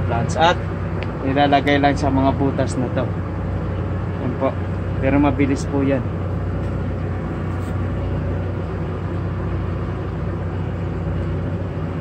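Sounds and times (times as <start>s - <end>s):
tractor engine running under load: 0.0s - 12.0s.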